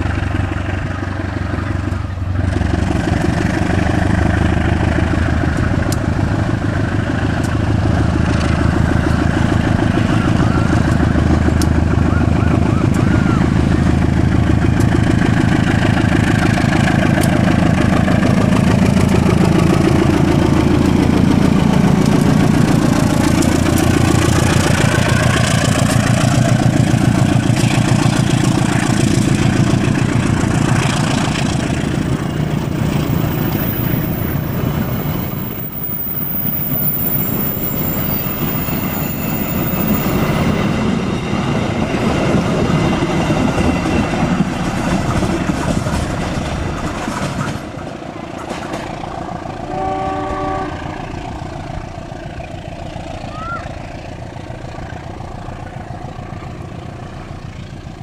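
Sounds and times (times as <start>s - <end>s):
diesel locomotive engine passing: 0.0s - 58.0s
train coaches clacking over rail joints: 1.3s - 49.8s.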